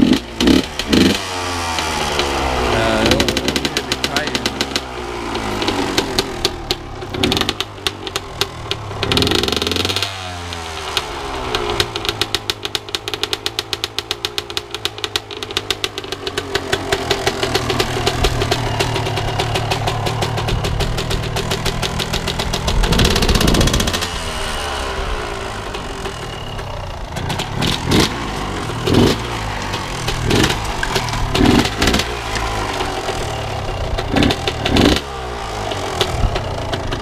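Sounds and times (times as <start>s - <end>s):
dirt bike engine idling and revving: 0.0s - 37.0s.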